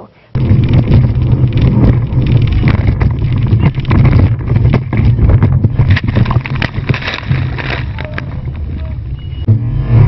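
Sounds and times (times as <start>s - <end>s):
wind buffeting microphone: 0.4s - 9.4s.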